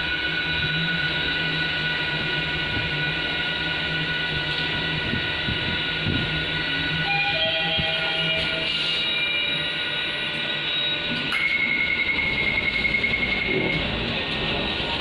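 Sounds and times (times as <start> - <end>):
high-pitched whining tones: 0.0 - 14.0
elevator hum with low drone: 0.0 - 15.0.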